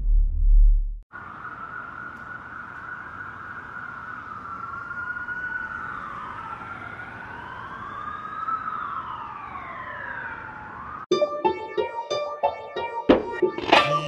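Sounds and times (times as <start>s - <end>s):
sirens wailing: 1.1s - 14.0s.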